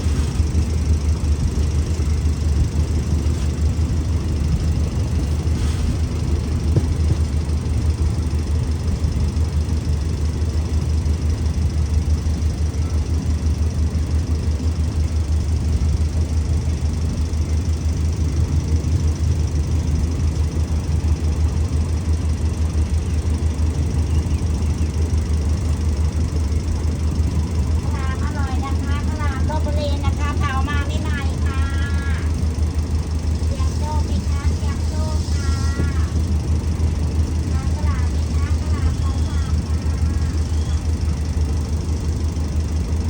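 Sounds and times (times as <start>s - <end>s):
locomotive diesel engine running: 0.0s - 43.0s.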